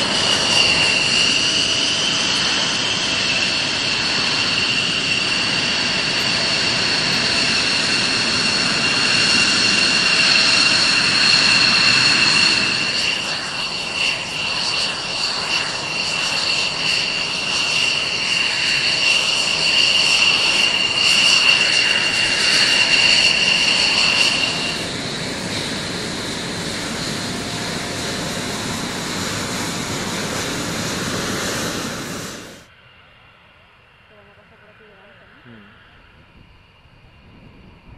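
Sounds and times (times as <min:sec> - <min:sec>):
high-pitched two-tone whine: 0:00.0 - 0:37.8
jet engine roar: 0:00.0 - 0:37.9.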